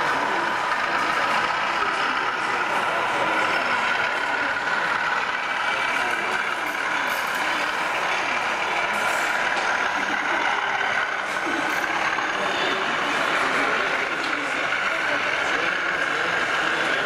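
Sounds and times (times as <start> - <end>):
diesel locomotive engine hum: 0.0 - 17.0.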